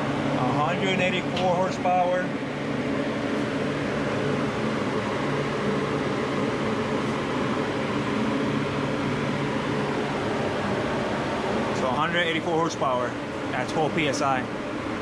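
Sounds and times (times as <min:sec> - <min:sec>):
mechanical drone: 0:00.0 - 0:15.0.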